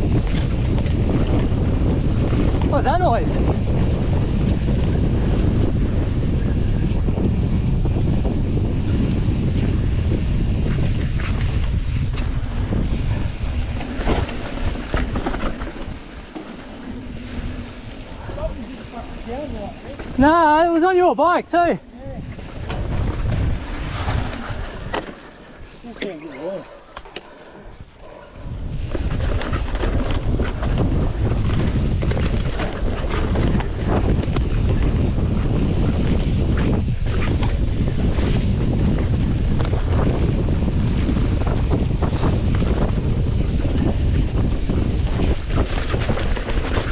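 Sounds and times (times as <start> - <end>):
wind on microphone: 0.0 - 20.8, 21.9 - 26.8, 27.5 - 46.9
tyres on dirt trail: 0.0 - 46.9
bike clattering over bumps: 3.4 - 20.2, 22.3 - 26.2, 28.7 - 46.9.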